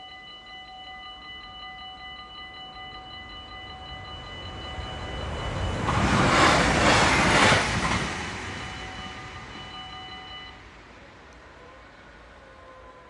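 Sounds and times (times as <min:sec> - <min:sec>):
crossing warning bell ringing: 0:00.0 - 0:10.8
train passing: 0:00.1 - 0:13.0.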